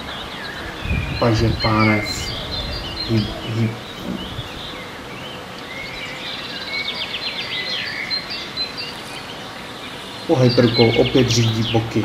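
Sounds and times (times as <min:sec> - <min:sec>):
outdoor background noise: 0:00.0 - 0:12.0
songbirds singing and chirping: 0:00.0 - 0:12.0.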